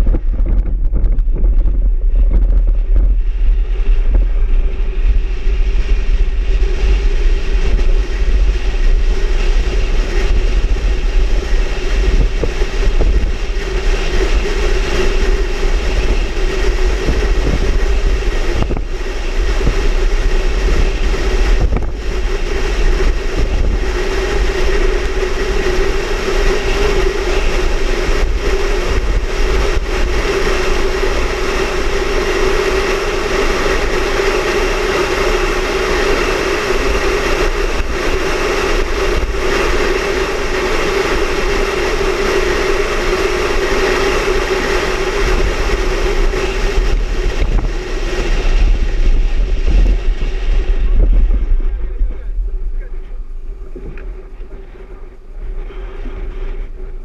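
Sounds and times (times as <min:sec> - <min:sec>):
low rumble: 0:00.0 - 0:57.0
vehicle engine and road drone: 0:00.0 - 0:57.0.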